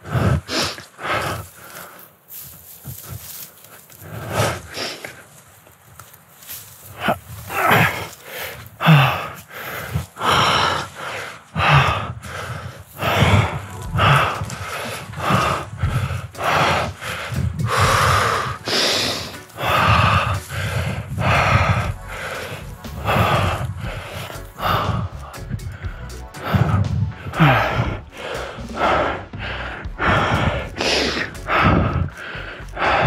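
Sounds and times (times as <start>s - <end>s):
man panting: 0.0s - 5.4s, 6.8s - 33.0s.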